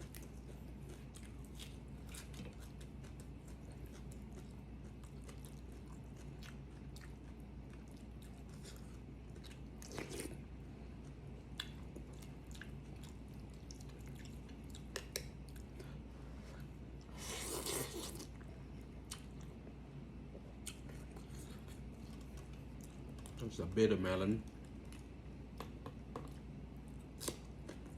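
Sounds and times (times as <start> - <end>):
person chewing: 0.0 - 19.6, 20.3 - 23.4, 24.5 - 27.9
steady low hum: 0.0 - 27.9.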